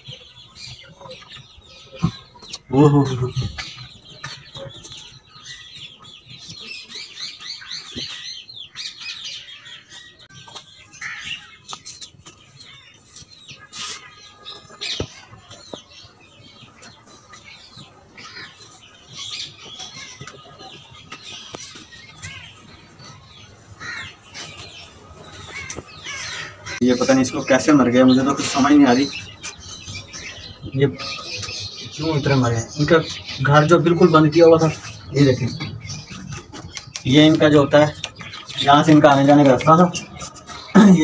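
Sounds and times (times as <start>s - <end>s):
birds chirping and twittering: 0.0s - 41.0s.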